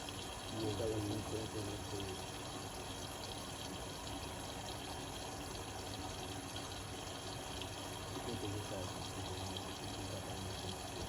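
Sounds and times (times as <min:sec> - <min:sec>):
washing machine filling with water: 0:00.0 - 0:11.0.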